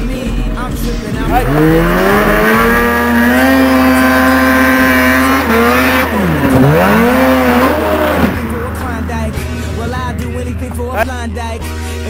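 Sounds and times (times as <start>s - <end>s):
snowmobile engine revving: 1.0s - 11.2s.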